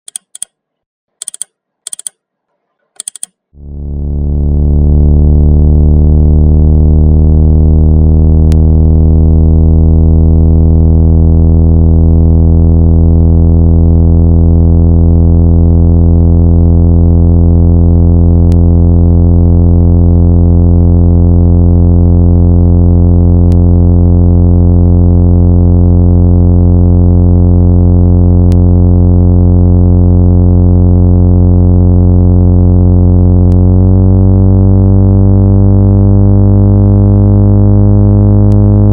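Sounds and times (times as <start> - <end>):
synthesized low buzzing tone: 3.0 - 38.9.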